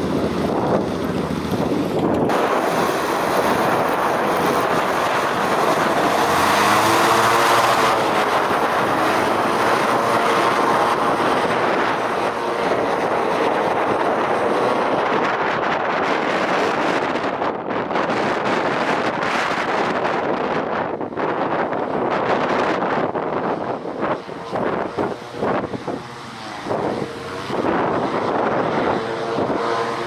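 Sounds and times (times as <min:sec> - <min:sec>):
hovercraft running over water: 0:00.0 - 0:30.0
wind buffeting microphone: 0:00.0 - 0:30.0.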